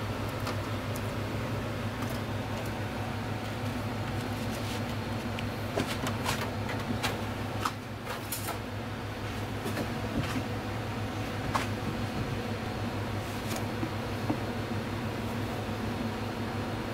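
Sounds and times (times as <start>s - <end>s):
kitchen equipment hum: 0.0s - 16.9s.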